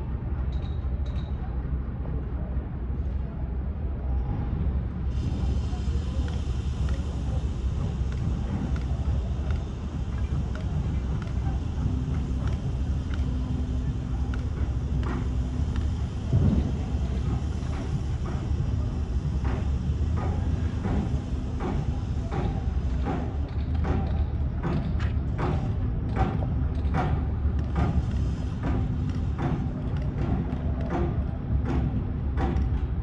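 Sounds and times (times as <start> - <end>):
low hum and rumble: 0.0 - 33.0.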